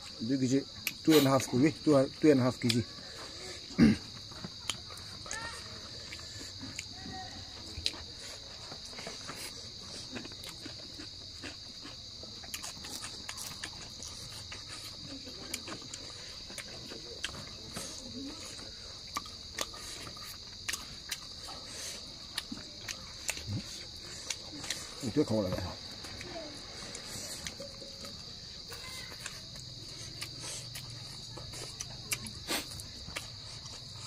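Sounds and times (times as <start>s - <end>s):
night insects chirring: 0.0s - 34.0s
people chewing food: 0.0s - 34.0s.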